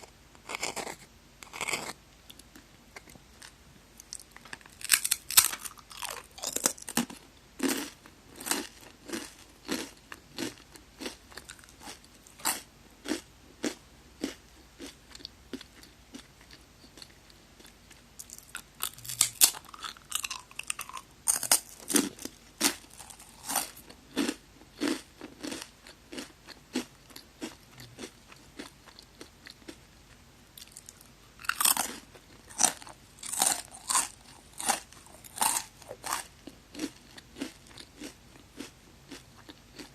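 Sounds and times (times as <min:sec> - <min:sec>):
crunching rice cracker: 0:00.4 - 0:29.8, 0:30.6 - 0:39.9.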